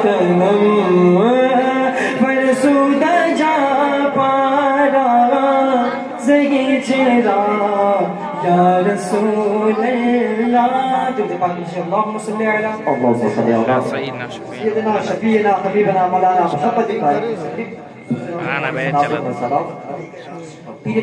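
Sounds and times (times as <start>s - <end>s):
man singing devotional song: 0.0s - 21.0s.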